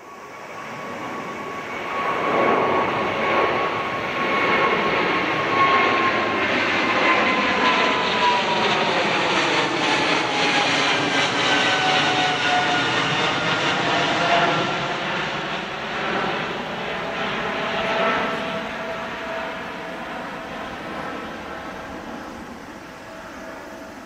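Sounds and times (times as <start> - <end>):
jet engine roar overhead: 0.0 - 24.0.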